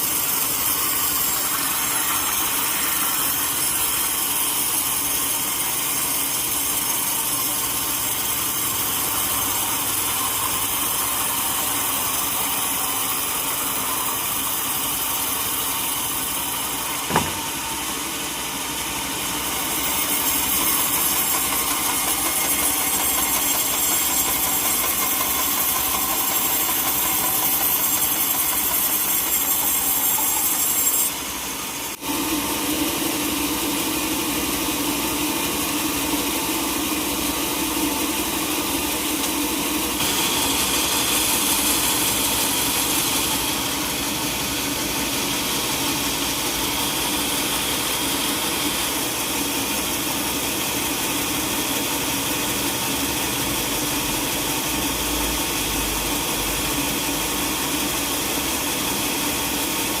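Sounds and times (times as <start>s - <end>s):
sawmill machinery running: 0.0s - 60.0s.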